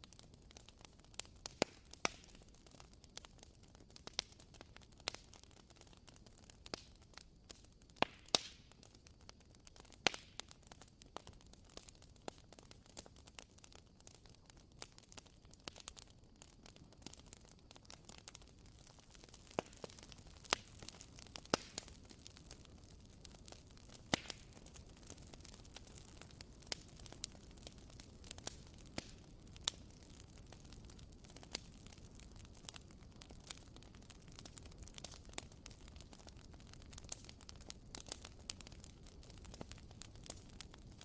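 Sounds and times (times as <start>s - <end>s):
wooden candle wick crackling: 0.0s - 41.0s.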